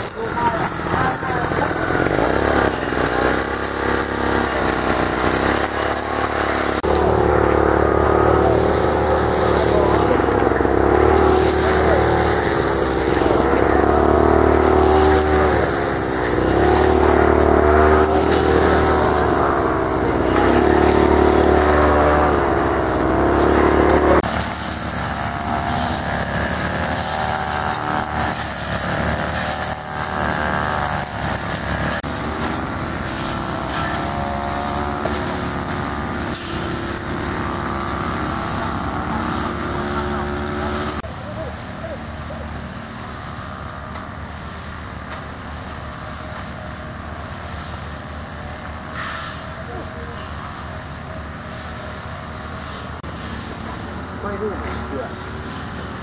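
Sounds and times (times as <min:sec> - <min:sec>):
brush cutter engines revving: 0:00.0 - 0:56.0.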